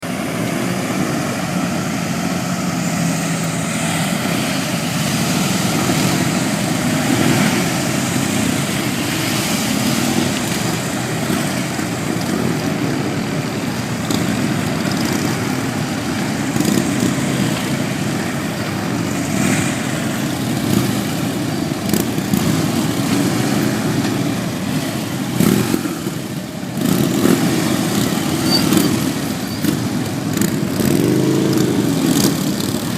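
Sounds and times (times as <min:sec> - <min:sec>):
motorcycle engines riding off: 0:00.0 - 0:32.9.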